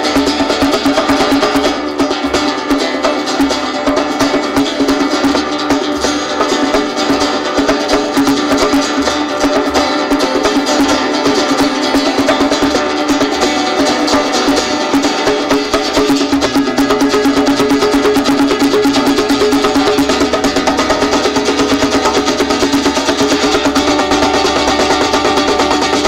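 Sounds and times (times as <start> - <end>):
acoustic guitars playing: 0.0 - 26.0
hand drum percussion: 0.0 - 26.0.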